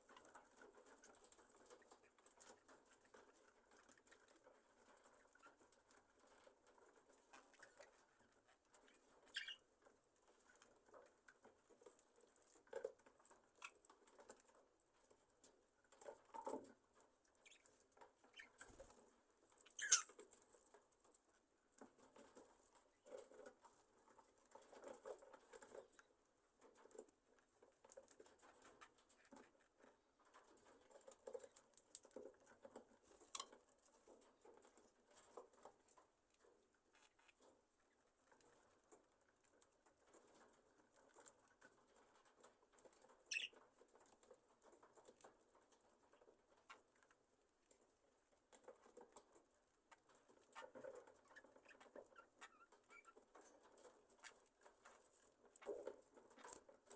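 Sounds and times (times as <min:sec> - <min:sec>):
birds rustling and scratching: 0:00.0 - 0:56.9.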